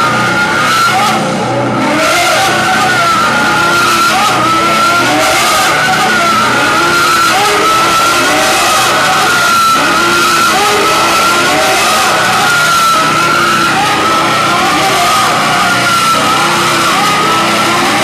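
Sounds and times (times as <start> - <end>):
live band playing distorted music: 0.0 - 18.0.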